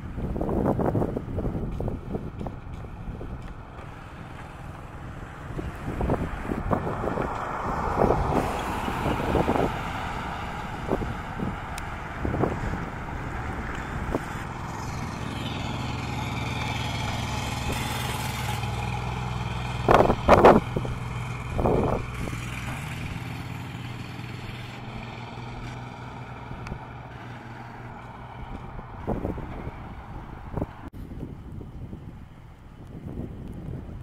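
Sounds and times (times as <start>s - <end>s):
vehicle driving on gravel: 0.0s - 34.0s.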